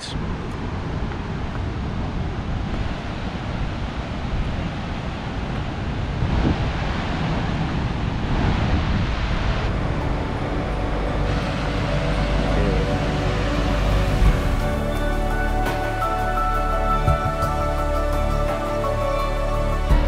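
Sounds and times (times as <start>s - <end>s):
wind on microphone: 0.0s - 17.8s
flowing river water: 0.0s - 20.0s.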